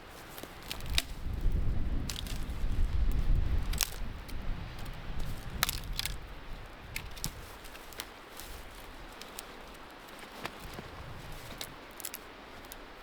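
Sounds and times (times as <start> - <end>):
wind rumble on microphone: 0.0 - 9.8, 10.4 - 11.9
twigs and branches snapping: 0.0 - 13.0.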